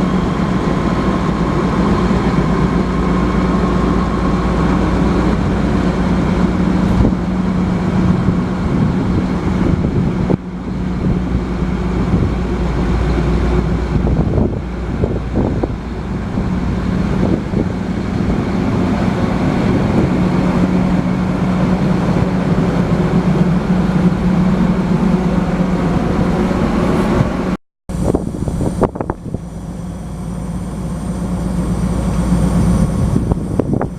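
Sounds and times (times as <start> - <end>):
combine harvester engine drone: 0.0 - 33.9.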